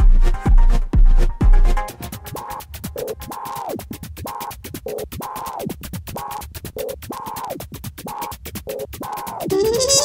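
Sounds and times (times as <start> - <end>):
electronic music with fast beat: 0.0 - 10.0.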